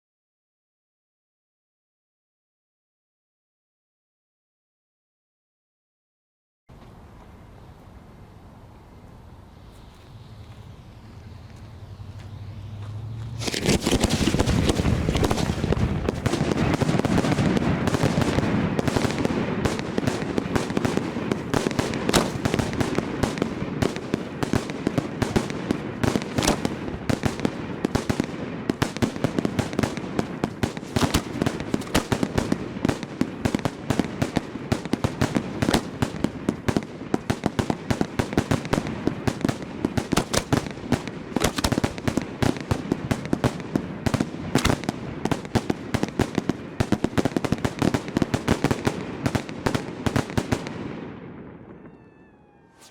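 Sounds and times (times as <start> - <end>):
fireworks barrage: 6.7 - 52.9.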